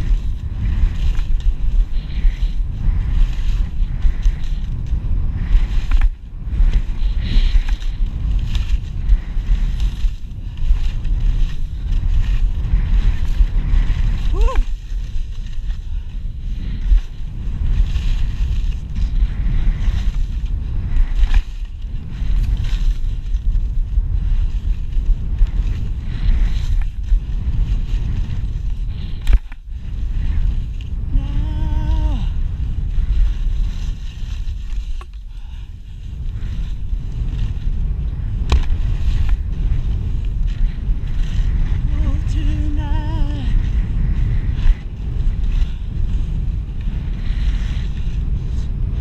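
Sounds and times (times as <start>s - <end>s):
snow scraping: 0.0s - 49.0s
wind buffeting microphone: 0.0s - 49.0s.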